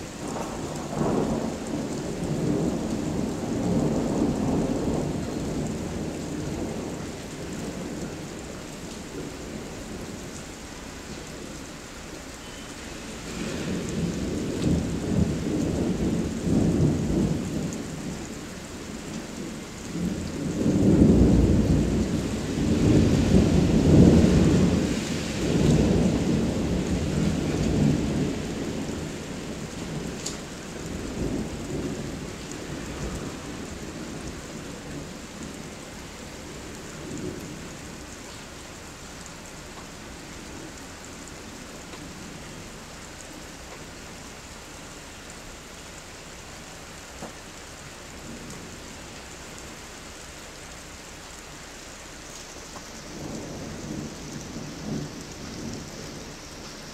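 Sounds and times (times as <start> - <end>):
thunder rumbling: 0.0 - 43.8, 52.3 - 56.9
steady rain: 0.0 - 56.9.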